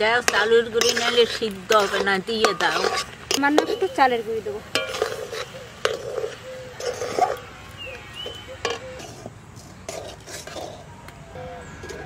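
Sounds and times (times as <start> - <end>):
metal spatula scraping a pan: 0.0 - 12.0.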